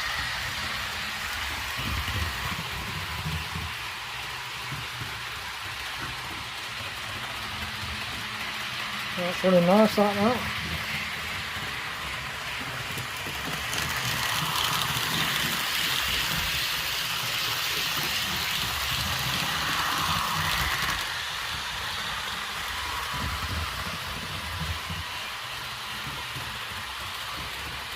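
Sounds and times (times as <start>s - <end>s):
model train wheels on rail: 0.0s - 27.9s.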